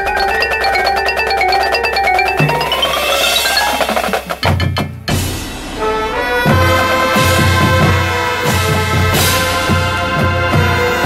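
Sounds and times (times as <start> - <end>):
marching band brass chords: 0.0 - 11.0.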